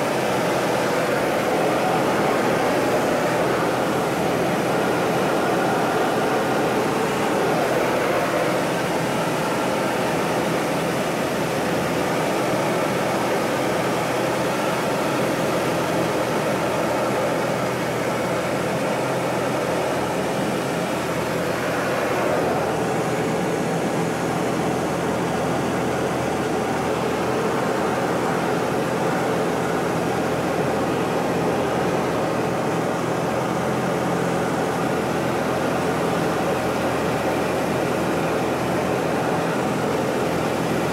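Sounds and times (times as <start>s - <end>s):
propeller plane engine drone: 0.0s - 40.9s.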